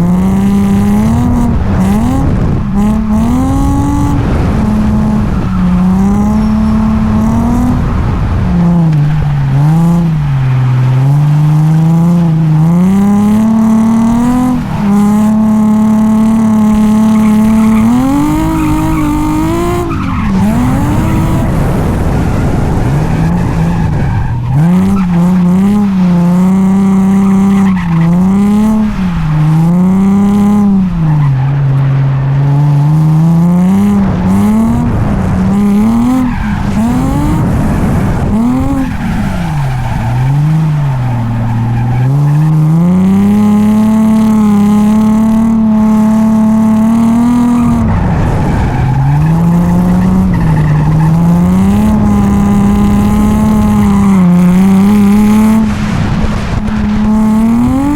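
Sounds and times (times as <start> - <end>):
car engine revving hard: 0.0 - 57.9
tyres skidding: 0.0 - 57.9.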